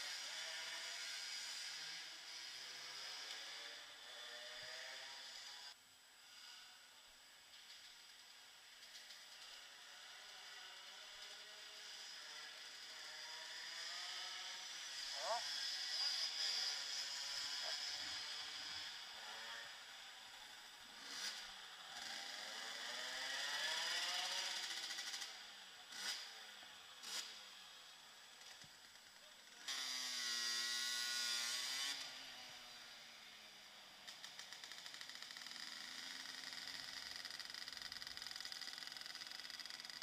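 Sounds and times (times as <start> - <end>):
small engine revving: 0.0 - 6.8, 8.8 - 40.0.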